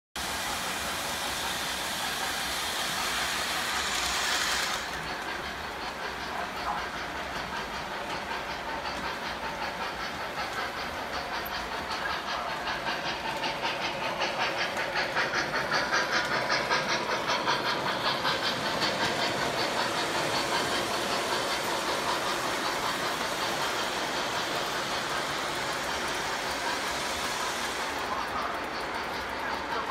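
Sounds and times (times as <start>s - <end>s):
model trains rumbling on track: 0.2s - 29.9s.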